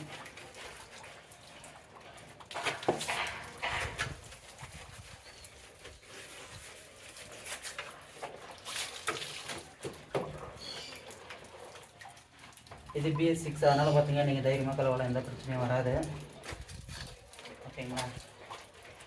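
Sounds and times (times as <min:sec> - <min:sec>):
wet scrubbing and splashing: 0:00.0 - 0:19.0.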